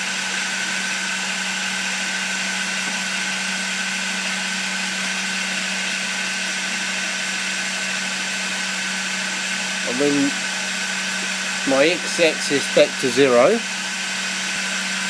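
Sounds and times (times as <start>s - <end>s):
milling machine spindle humming: 0.0s - 15.0s.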